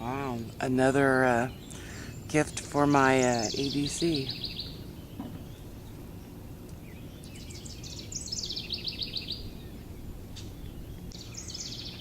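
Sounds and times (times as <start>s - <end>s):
low background rumble: 0.0s - 12.0s
songbird singing: 0.0s - 12.0s.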